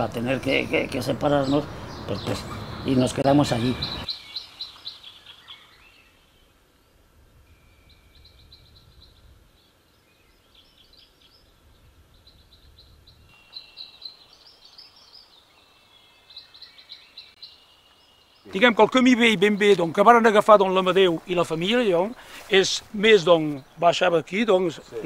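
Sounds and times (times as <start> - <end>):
small birds chirping: 0.0 - 7.0, 7.8 - 25.0.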